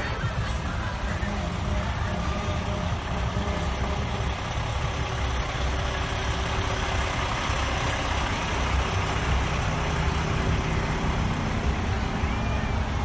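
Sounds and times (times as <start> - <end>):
heavy truck engines running: 0.0 - 13.0.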